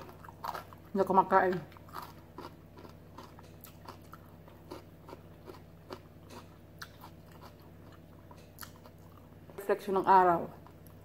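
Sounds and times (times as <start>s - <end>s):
person chewing crunchy food: 0.0s - 9.5s
low steady hum: 0.0s - 11.0s.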